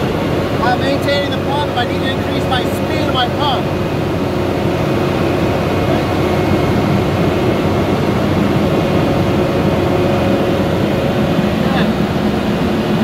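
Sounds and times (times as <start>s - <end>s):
fire engine idling with pump: 0.0s - 13.0s.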